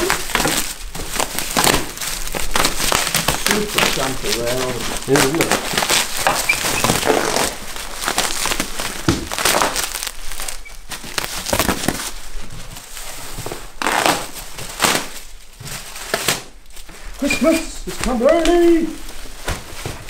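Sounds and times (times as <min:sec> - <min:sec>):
packaging crinkling: 0:00.0 - 0:20.0.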